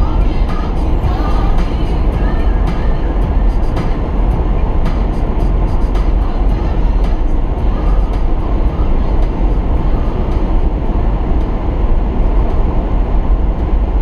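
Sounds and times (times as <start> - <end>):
road and wind noise in car: 0.0 - 14.0.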